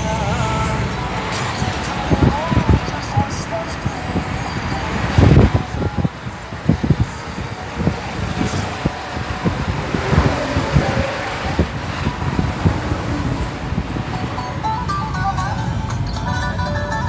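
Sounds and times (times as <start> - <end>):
low thumps and buffets: 0.0 - 16.2
road and tyre noise: 0.0 - 17.0.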